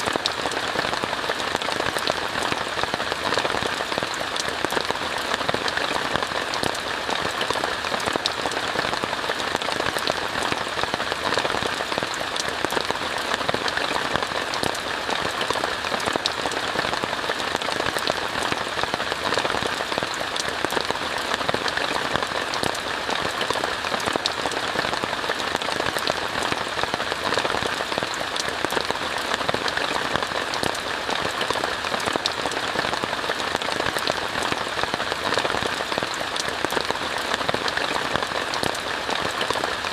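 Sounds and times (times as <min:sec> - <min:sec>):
rain on a tent: 0:00.0 - 0:39.9.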